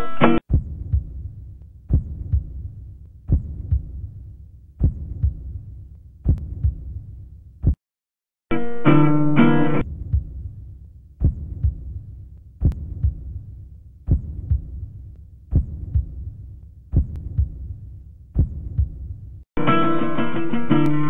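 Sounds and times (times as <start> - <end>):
heartbeat thumps: 0.5 - 7.8, 9.8 - 19.4.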